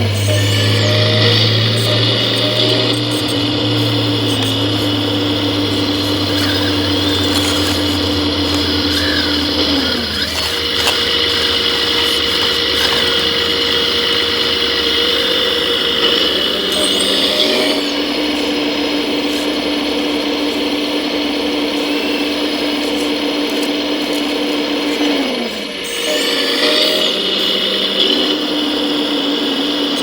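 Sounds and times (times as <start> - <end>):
electric motor and gear whine: 0.0 - 30.0.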